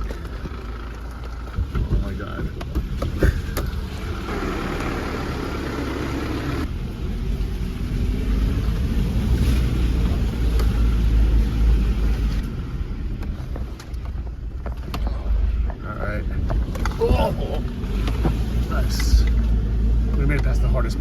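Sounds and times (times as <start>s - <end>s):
low car engine rumble: 0.0s - 21.0s.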